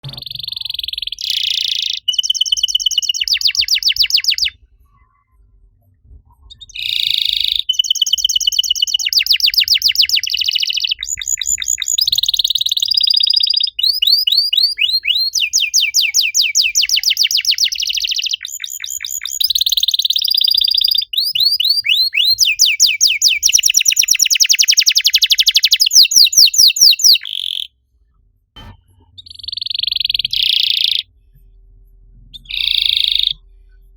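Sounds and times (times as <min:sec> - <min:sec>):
canary singing fast trills: 0:00.0 - 0:04.6, 0:06.5 - 0:27.8, 0:29.1 - 0:31.1, 0:32.3 - 0:33.5.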